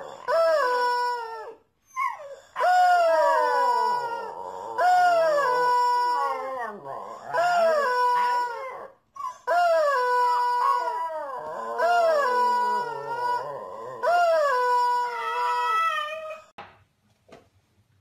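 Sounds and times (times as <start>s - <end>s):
puppy howling: 0.0s - 16.5s.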